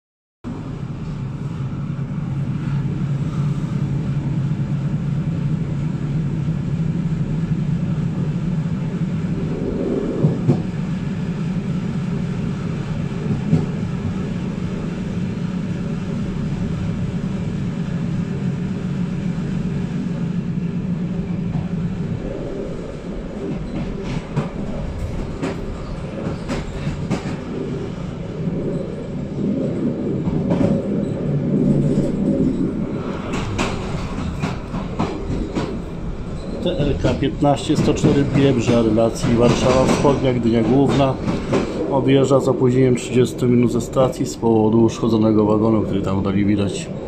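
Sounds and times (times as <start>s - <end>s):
train rumble and hum: 0.4s - 47.0s.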